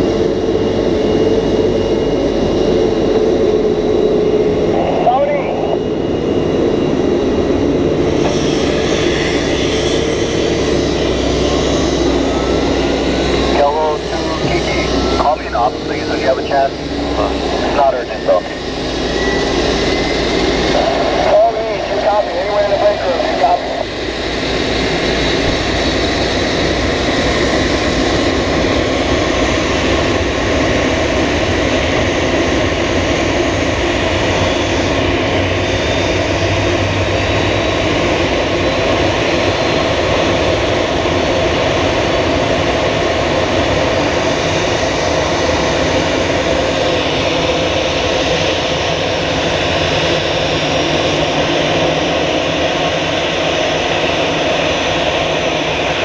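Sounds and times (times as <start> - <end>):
jet engine noise: 0.0 - 56.0.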